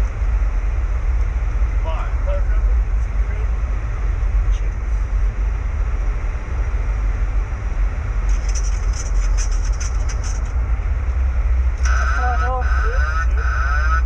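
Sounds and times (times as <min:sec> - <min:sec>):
low rumble of airflow and engines: 0:00.0 - 0:14.0.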